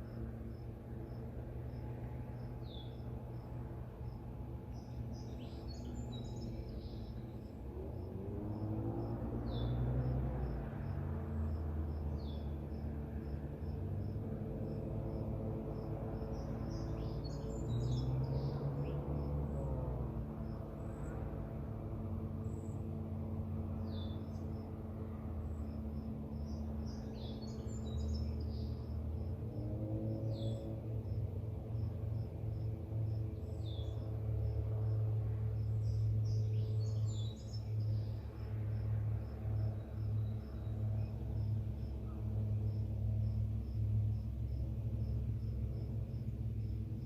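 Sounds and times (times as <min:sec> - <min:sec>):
low engine-like hum: 0:00.0 - 0:47.0.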